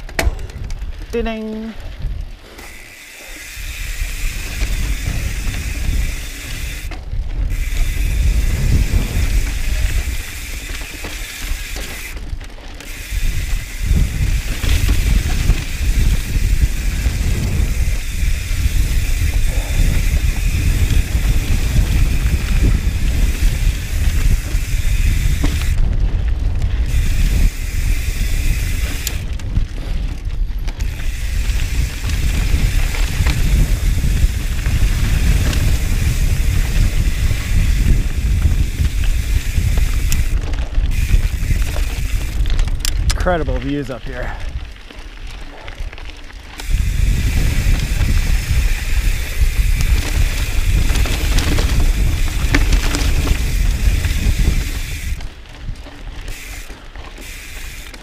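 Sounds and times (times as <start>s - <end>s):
tyres on dirt and stones: 0.0s - 58.0s.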